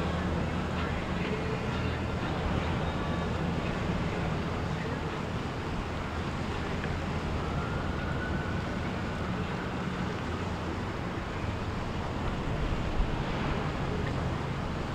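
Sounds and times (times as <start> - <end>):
boat engines humming: 0.0 - 14.9
faint thin whine: 0.0 - 14.9
water noise: 0.0 - 14.9
wind: 0.0 - 14.9.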